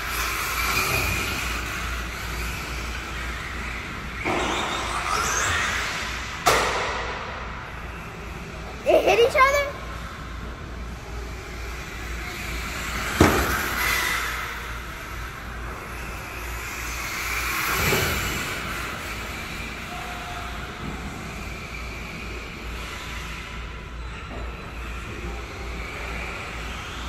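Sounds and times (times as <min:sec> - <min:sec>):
radio-controlled cars driving: 0:00.0 - 0:27.0.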